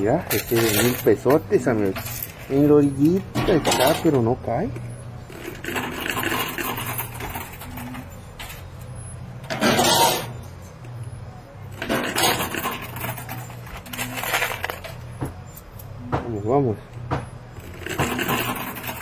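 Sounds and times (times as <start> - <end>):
coins clattering in arcade machine: 0.0 - 10.8, 11.7 - 16.0, 17.6 - 19.0
steady low hum: 0.0 - 19.0.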